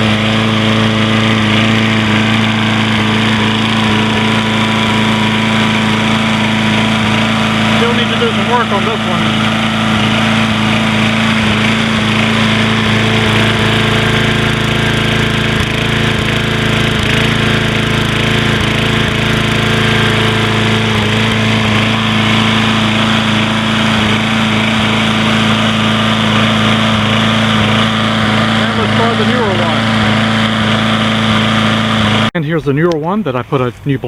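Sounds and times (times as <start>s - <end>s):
lawn mower engine running: 0.0s - 33.6s.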